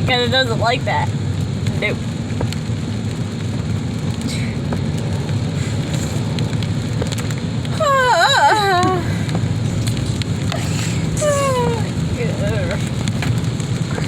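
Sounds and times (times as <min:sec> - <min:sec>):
low rumble of vehicle noise: 0:00.0 - 0:14.0.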